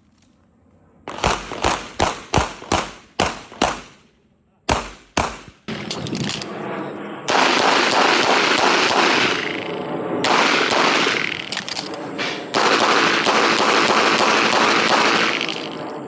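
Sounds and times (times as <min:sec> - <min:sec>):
rapid handgun fire: 0:01.1 - 0:04.0, 0:04.7 - 0:06.4, 0:07.3 - 0:16.0.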